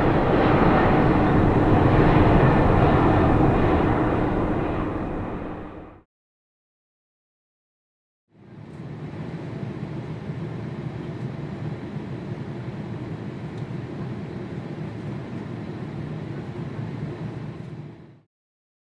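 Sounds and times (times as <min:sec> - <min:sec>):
jet engines rumbling: 0:00.0 - 0:06.0, 0:08.5 - 0:18.2.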